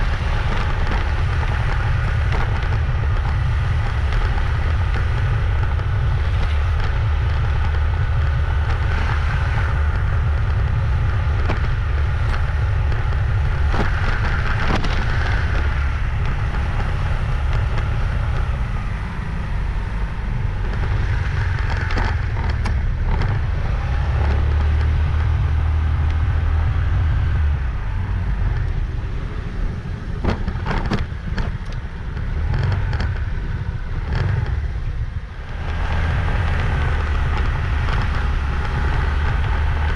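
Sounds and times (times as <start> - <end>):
motorbike engine: 0.0 - 39.9
road noise: 0.0 - 39.9
wind rumbling on microphone: 0.0 - 39.9.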